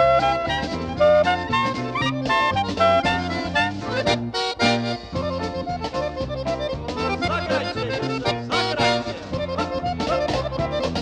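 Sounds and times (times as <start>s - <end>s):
accordion: 0.0s - 11.0s
polka band playing: 0.0s - 11.0s.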